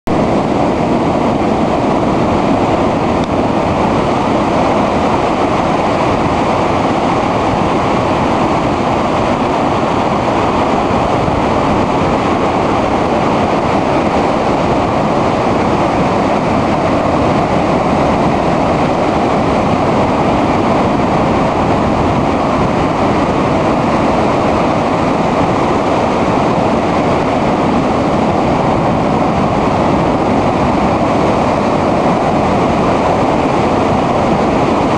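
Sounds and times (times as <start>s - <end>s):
surf breaking over rocks: 0.1s - 34.9s.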